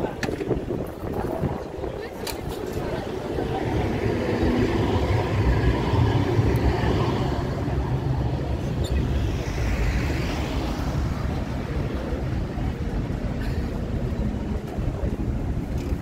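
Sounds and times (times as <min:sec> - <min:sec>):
street noise: 0:00.0 - 0:16.0
tram rumbling past: 0:00.0 - 0:16.0.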